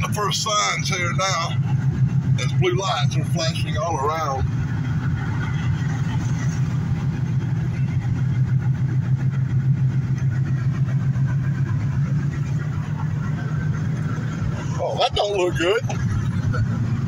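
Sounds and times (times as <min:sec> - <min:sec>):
car engine and tyre noise on wet road: 0:00.0 - 0:17.0.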